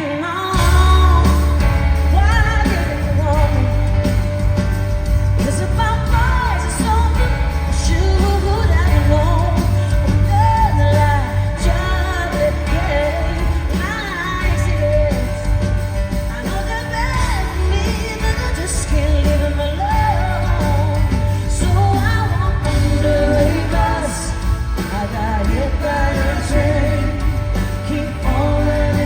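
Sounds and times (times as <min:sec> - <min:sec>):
live pop band: 0:00.0 - 0:29.0
woman singing: 0:00.0 - 0:29.0.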